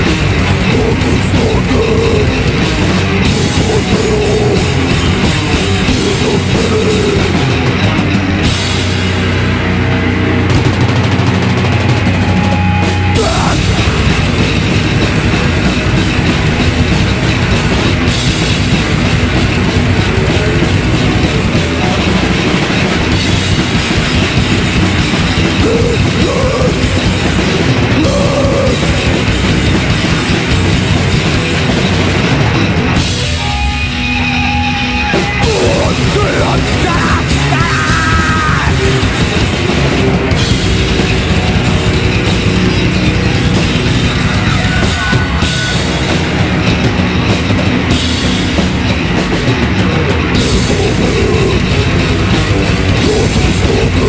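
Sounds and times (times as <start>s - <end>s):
bass guitar: 0.0s - 54.0s
distorted electric guitars: 0.0s - 54.0s
drum kit: 0.0s - 54.0s.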